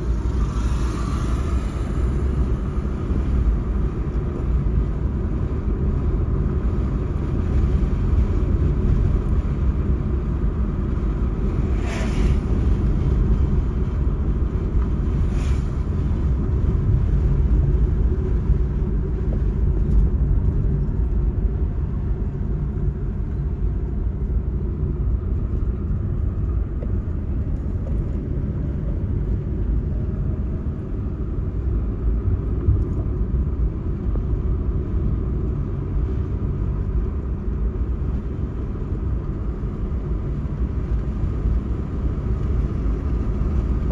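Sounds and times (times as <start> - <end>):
vehicle driving on paved road: 0.0 - 43.9.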